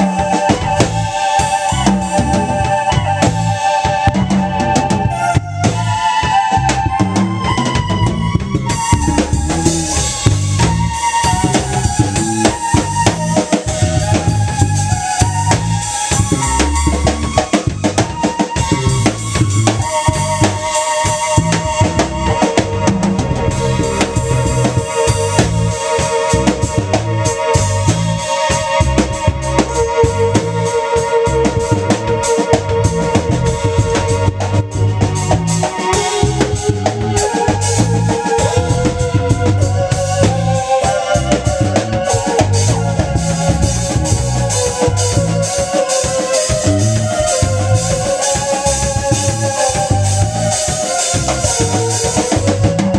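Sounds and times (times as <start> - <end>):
drum kit: 0.0 - 52.9
electric bass: 0.0 - 52.9
keyboard holding long notes: 0.0 - 52.9.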